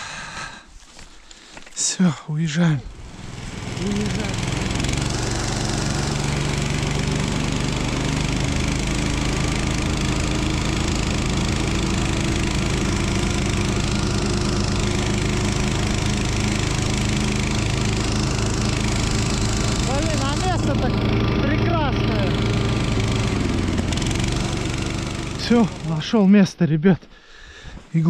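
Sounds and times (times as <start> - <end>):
small petrol engine running: 2.5 - 26.4.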